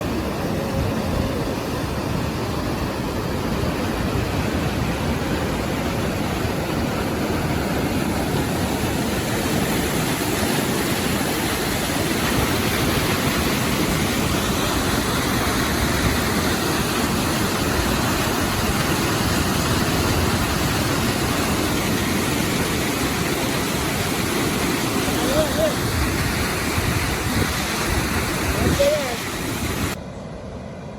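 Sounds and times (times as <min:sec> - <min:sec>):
water rushing through dam: 0:00.0 - 0:30.0.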